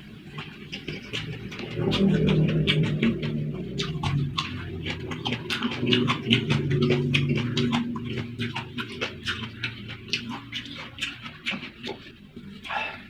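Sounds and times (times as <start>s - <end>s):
low steady hum: 0.0s - 13.0s
wet chewing and lip-smacking: 0.0s - 13.0s.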